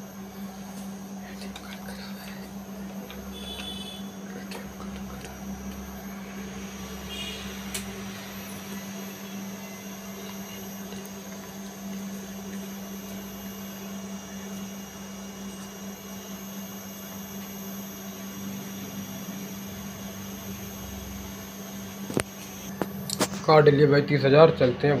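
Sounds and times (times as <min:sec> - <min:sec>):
faint high whine: 0:00.0 - 0:25.0
fan noise: 0:00.0 - 0:25.0
low electrical drone: 0:00.0 - 0:25.0.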